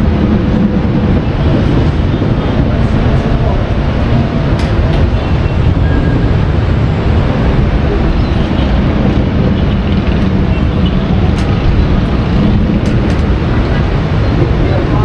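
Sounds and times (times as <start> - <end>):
loud steady rumbling: 0.0 - 15.0.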